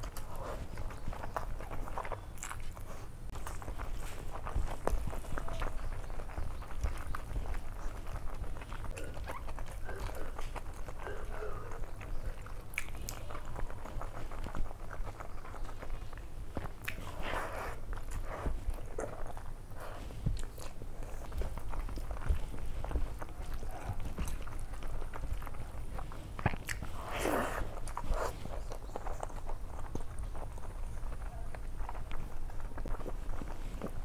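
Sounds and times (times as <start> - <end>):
chewing and mouth smacks: 0.0 - 34.0
fingers squelching food: 0.0 - 34.0
steady low hum: 0.0 - 34.0.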